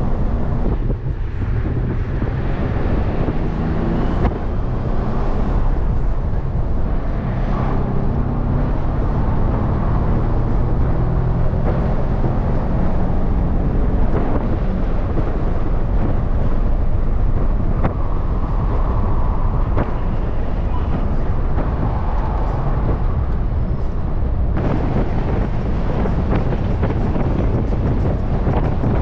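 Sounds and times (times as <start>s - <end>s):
car engine running: 0.0s - 29.0s
wind and road noise in car: 0.0s - 29.0s.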